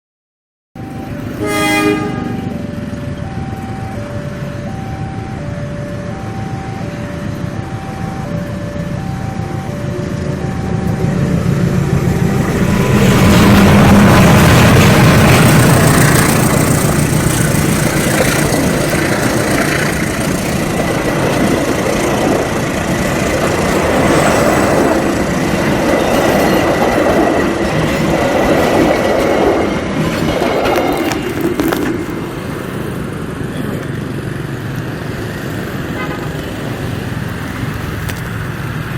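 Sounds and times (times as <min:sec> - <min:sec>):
train wheels rumbling on rails: 0:06.2 - 0:38.9.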